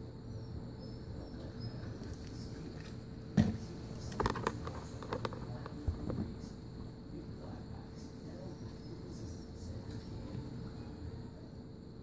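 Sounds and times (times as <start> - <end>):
faint high whine: 0.0 - 12.0
steady hum: 0.0 - 12.0.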